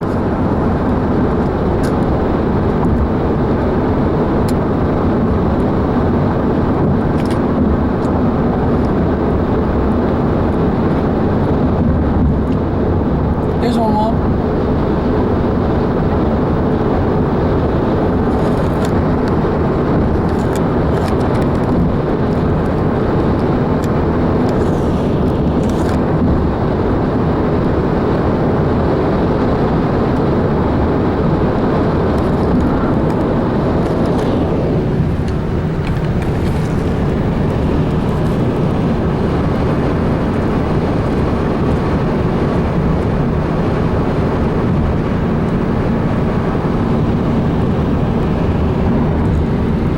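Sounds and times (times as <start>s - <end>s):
vehicle road and engine noise: 0.0s - 49.9s.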